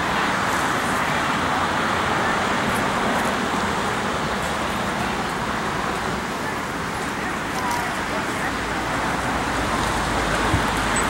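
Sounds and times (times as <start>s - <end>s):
motor vehicle rumble and hiss: 0.0s - 11.0s.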